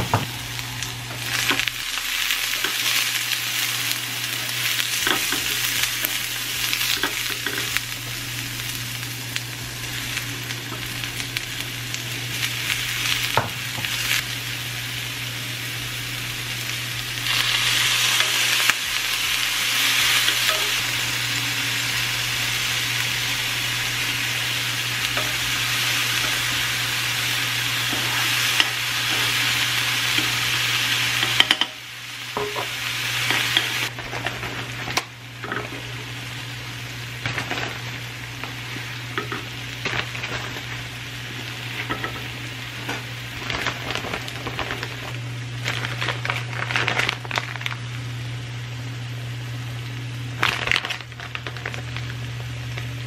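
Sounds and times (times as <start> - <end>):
vegetables sizzling in a skillet: 0.0 - 53.0.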